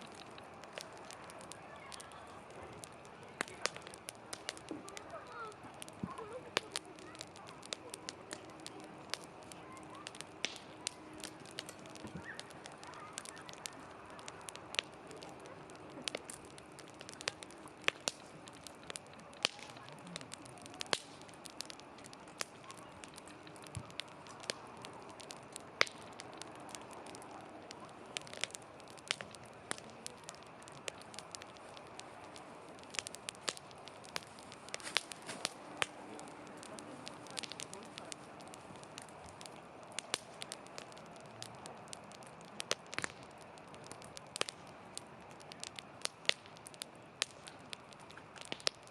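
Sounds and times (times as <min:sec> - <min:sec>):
campfire crackling and popping: 0:00.0 - 0:48.9
hiss of flames: 0:00.0 - 0:48.9.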